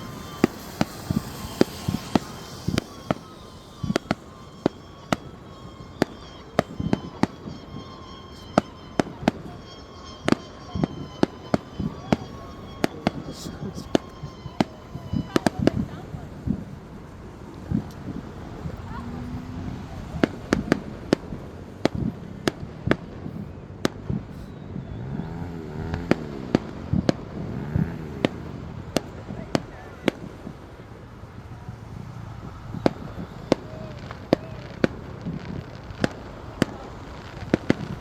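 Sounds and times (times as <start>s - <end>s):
fireworks bangs: 0.0s - 38.0s.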